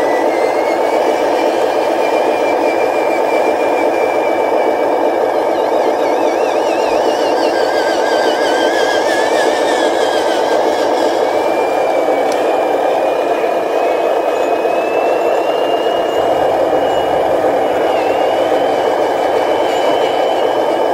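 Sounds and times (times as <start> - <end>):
thin high whine: 0.0 - 20.9
toy truck motor drone: 0.0 - 20.9.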